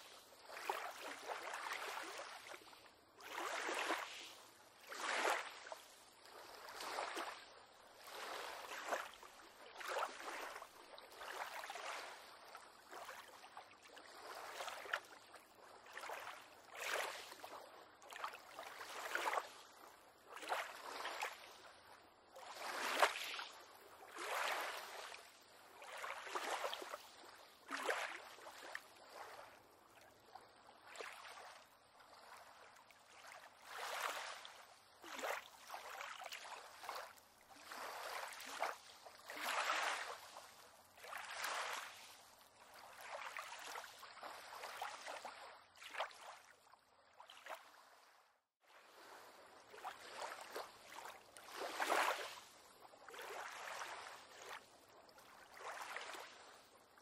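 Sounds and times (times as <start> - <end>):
small waves lapping against pier: 0.0 - 57.0.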